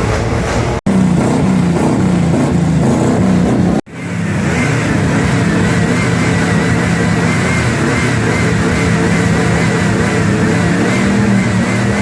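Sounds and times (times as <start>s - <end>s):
car engines revving: 0.0s - 12.0s
steady running engine: 0.0s - 12.0s.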